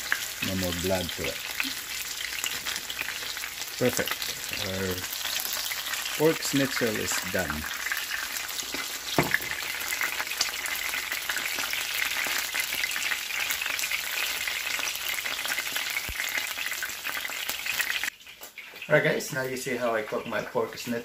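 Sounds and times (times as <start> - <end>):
oil sizzling and crackling: 0.0 - 21.0.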